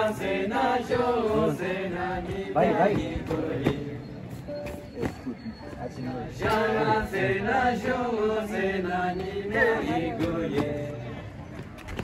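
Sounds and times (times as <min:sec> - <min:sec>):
group singing a folk chant: 0:00.0 - 0:05.0, 0:05.9 - 0:11.4.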